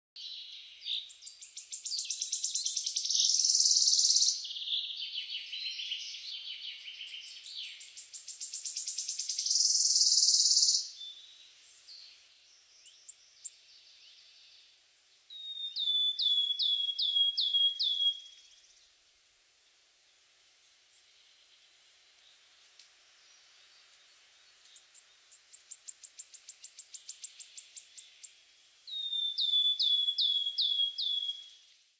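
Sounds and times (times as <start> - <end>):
small songbird singing: 0.2 - 19.0, 20.4 - 31.9.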